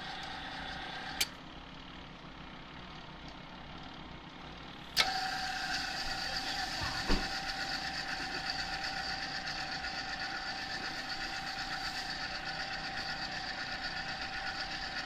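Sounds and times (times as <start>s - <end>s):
electric paddle mixer running: 0.0s - 15.0s.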